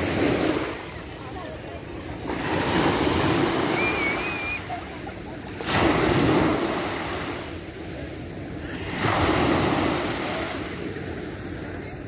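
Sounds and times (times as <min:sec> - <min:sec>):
small waves breaking on sand: 0:00.0 - 0:12.0.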